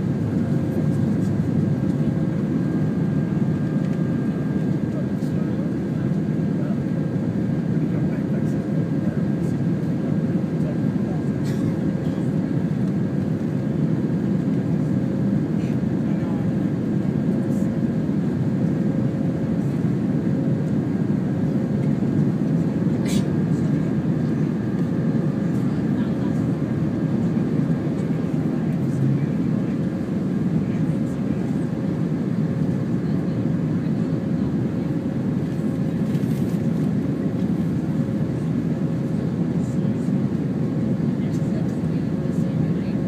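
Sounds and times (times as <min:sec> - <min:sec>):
jet cabin engine rumble: 0:00.0 - 0:43.0.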